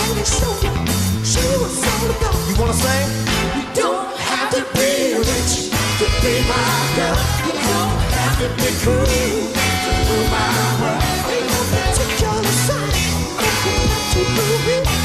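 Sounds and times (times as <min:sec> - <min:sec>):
live band playing with singing: 0:00.0 - 0:15.0.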